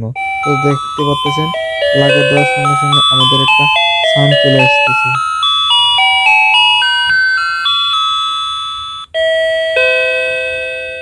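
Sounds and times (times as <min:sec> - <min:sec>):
electronic doorbell chime tune: 0:00.2 - 0:11.0
two-note ding-dong chime: 0:00.4 - 0:11.0.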